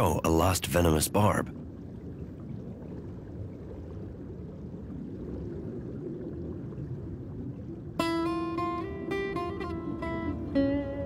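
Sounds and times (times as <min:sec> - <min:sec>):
underwater rushing ambience: 0:00.0 - 0:11.0.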